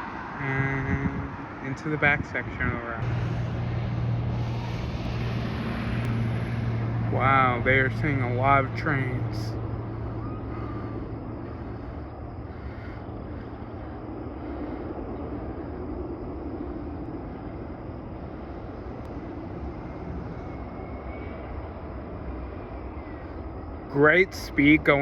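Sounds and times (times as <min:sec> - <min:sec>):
roller coaster train rumble: 0:00.0 - 0:25.0.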